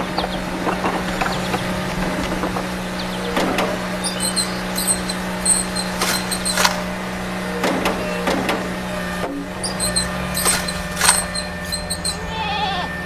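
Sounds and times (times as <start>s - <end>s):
clicks and knocks: 0.0s - 12.2s
small electric motor humming: 0.0s - 13.0s.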